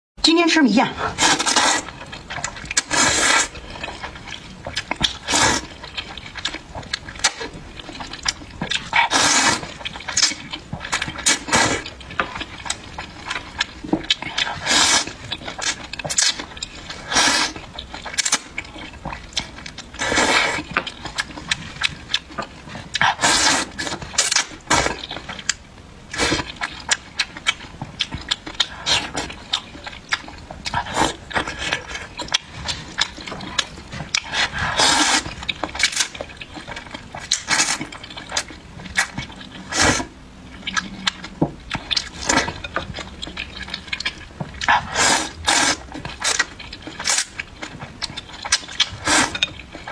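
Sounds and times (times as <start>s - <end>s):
slurping noodle soup: 1.0s - 25.4s, 28.2s - 43.0s, 43.6s - 49.9s
smacking and chewing: 1.0s - 49.9s.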